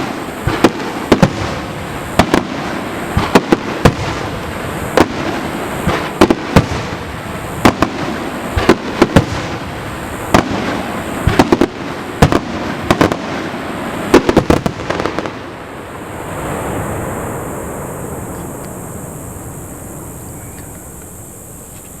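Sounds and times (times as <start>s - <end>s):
firework bangs: 0.0s - 20.2s.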